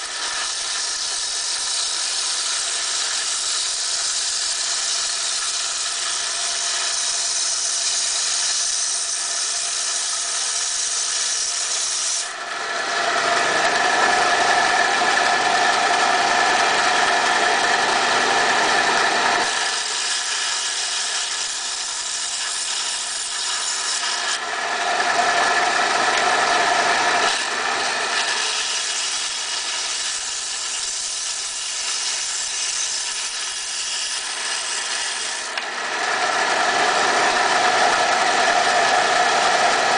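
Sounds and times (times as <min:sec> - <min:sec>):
band saw cutting rock: 0:00.0 - 0:39.9.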